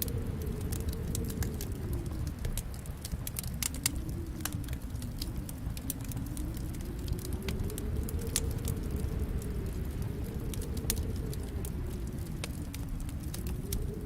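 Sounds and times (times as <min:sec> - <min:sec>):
rumble of flames: 0:00.0 - 0:14.0
wood fire crackling: 0:00.0 - 0:14.0.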